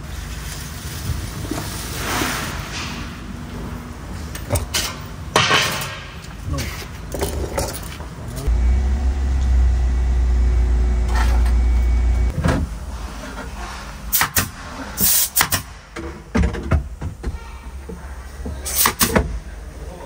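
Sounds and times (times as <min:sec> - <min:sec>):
steady low hum: 0:02.7 - 0:20.0.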